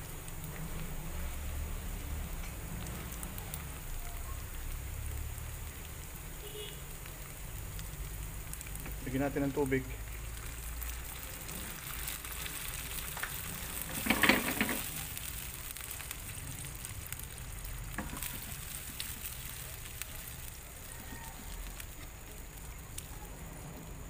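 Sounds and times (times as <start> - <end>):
frying pan sizzling: 0.0 - 24.0.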